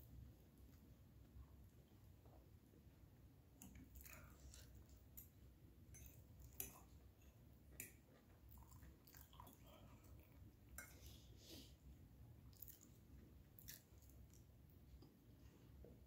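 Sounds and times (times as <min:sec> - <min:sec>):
faint chewing of soft food: 0:00.1 - 0:16.0.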